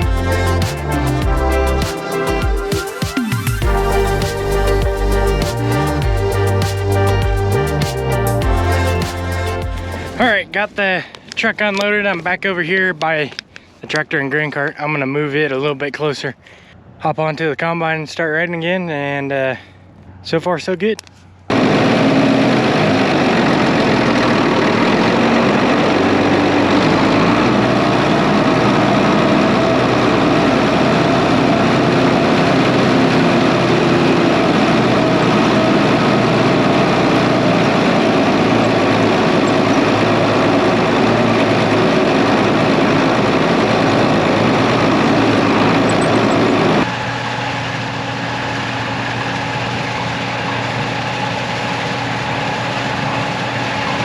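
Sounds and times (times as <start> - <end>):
diesel engine running: 0.0 - 12.4, 21.2 - 54.0.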